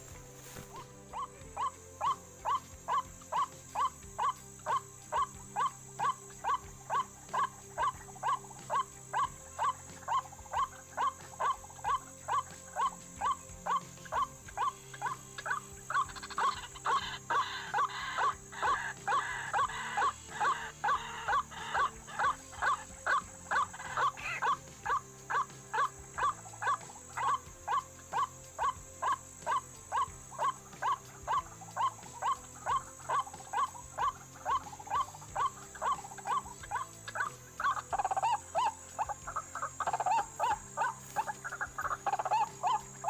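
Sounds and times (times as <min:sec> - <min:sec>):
harsh bird calls: 0:00.0 - 0:43.0
waterhen calling kwak notes: 0:00.0 - 0:43.0.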